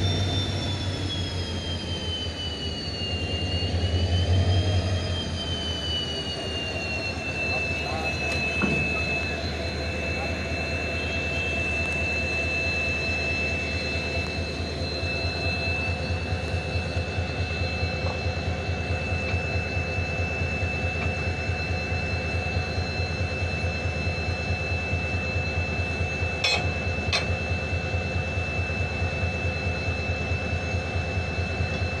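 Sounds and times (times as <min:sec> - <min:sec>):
high whine: 0:00.0 - 0:32.0
locomotive engine throbbing: 0:00.0 - 0:32.0.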